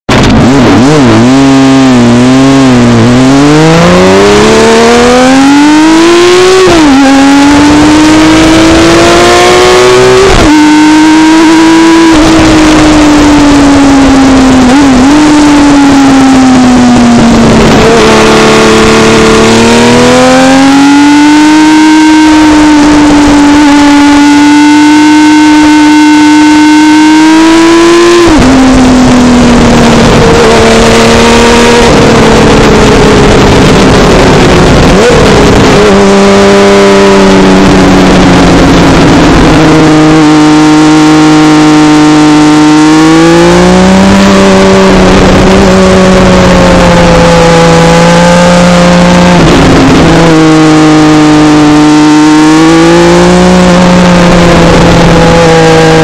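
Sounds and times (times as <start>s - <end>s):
motorcycle engine revving: 0.0s - 56.0s
wind rush on microphone: 0.1s - 56.0s.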